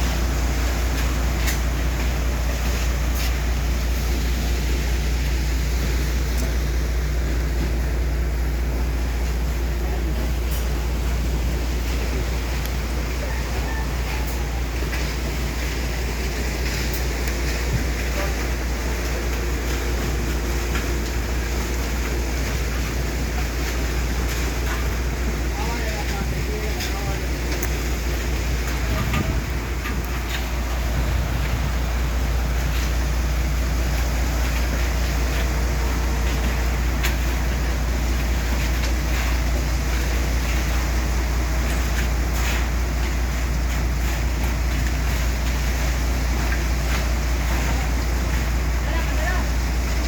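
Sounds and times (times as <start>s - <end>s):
machinery engine rumbling: 0.0s - 50.0s.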